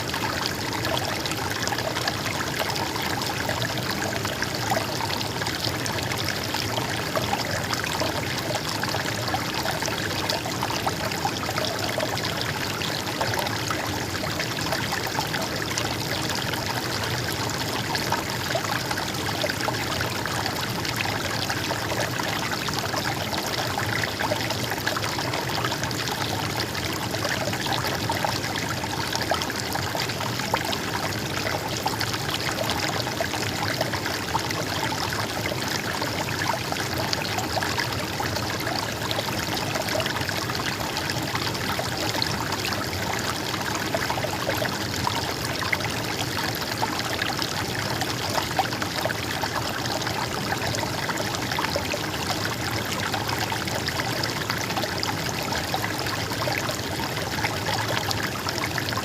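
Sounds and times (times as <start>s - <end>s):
stream water babbling: 0.0s - 59.0s.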